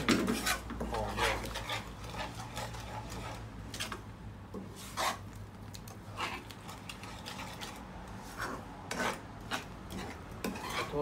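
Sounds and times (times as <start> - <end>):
spoon scraping frying pan: 0.0 - 11.0.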